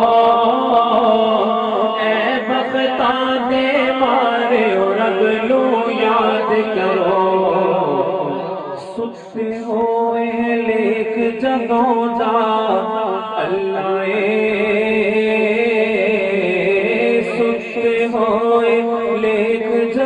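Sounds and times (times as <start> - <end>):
men chanting devotional recitation: 0.0 - 20.0.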